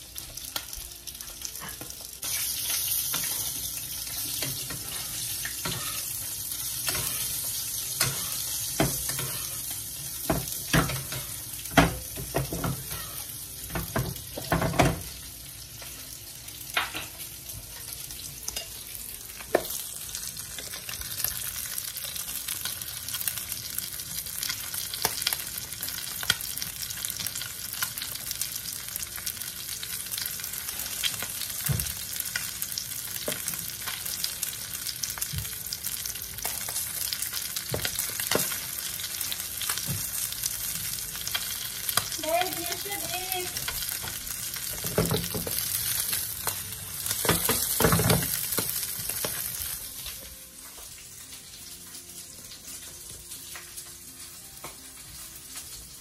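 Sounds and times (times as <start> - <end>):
fish sizzling in frying pan: 0.0 - 56.0.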